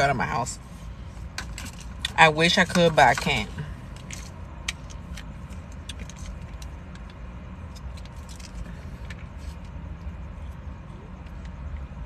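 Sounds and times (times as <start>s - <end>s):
low car rumble: 0.0s - 12.0s.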